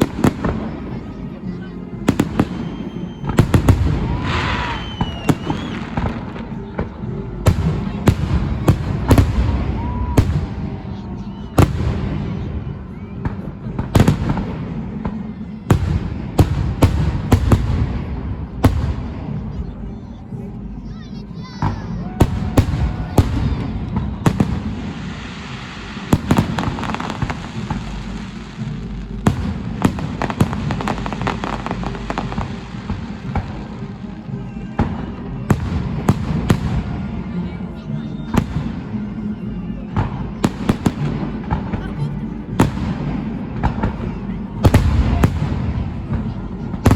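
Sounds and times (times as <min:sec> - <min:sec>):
fireworks bursting bangs: 0:00.0 - 0:19.7, 0:21.1 - 0:37.6, 0:38.3 - 0:46.9.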